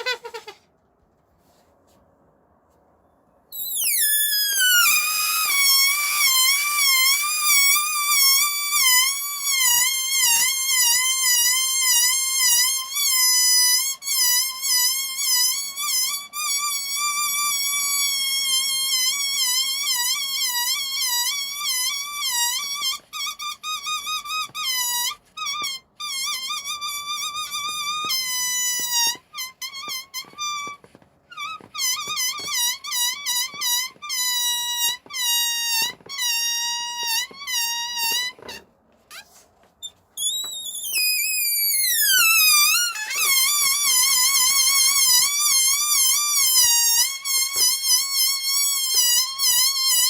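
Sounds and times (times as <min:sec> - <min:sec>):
balloon neck squealing: 0:00.0 - 0:00.7, 0:03.5 - 0:50.0.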